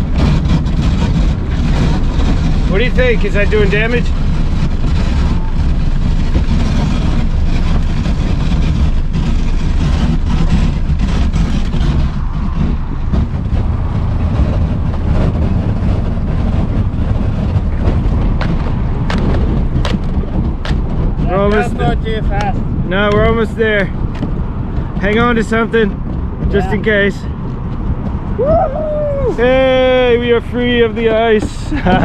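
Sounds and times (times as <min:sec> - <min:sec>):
motorboat engine running: 0:00.0 - 0:32.0.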